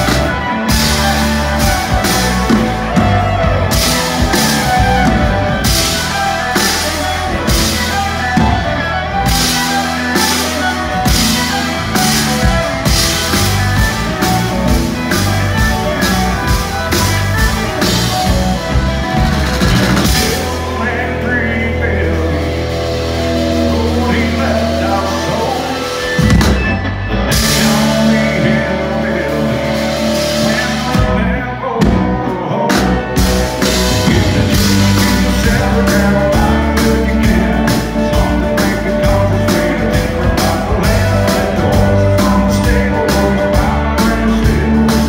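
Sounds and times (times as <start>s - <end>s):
bass: 0.0s - 45.0s
drums beating: 0.0s - 45.0s
electric guitar: 0.0s - 45.0s
fiddle: 0.0s - 45.0s
man singing: 0.0s - 45.0s.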